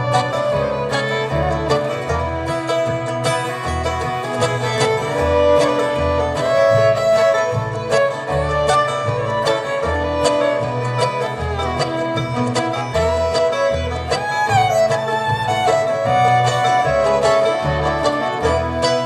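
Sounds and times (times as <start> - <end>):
acoustic bluegrass band playing: 0.0 - 19.0
bass notes: 0.0 - 19.0.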